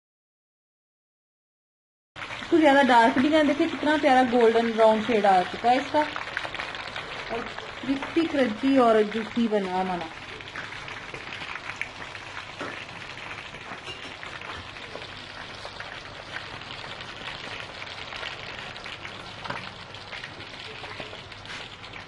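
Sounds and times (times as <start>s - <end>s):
chicken frying in hot oil: 2.2s - 22.0s.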